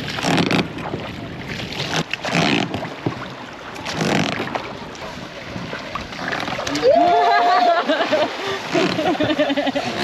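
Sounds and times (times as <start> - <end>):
oar strokes rushing water: 0.0 - 10.0.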